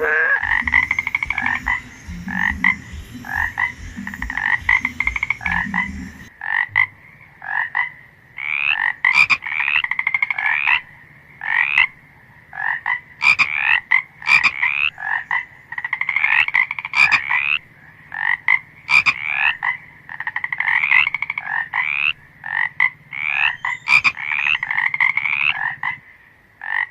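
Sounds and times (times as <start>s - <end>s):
frogs croaking in chorus: 0.0s - 26.9s.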